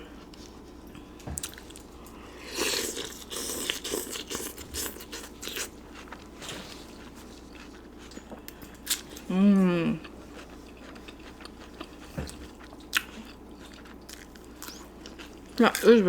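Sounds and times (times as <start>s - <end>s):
crunchy chewing: 0.2s - 9.3s, 10.0s - 15.6s.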